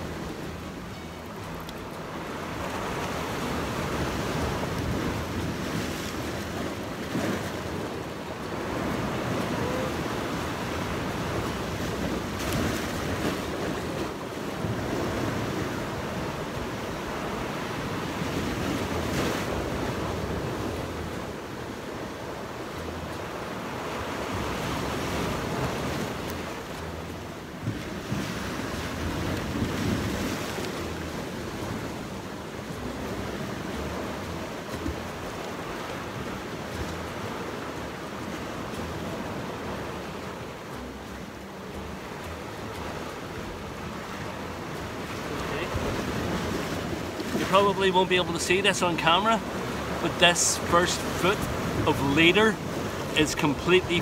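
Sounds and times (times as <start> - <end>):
surf breaking on shore: 0.0 - 54.0.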